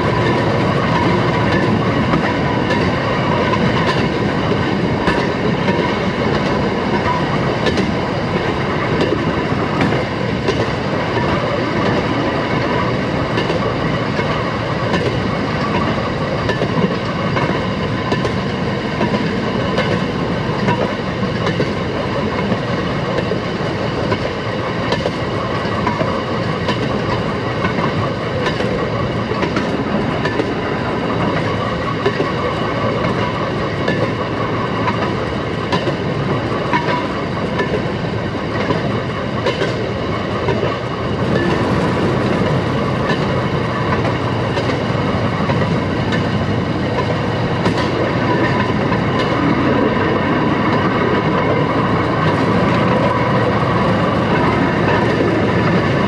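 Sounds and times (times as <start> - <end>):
rail motorcar engine and wheels: 0.0 - 56.0
wheels clicking over rail joints: 0.1 - 56.0.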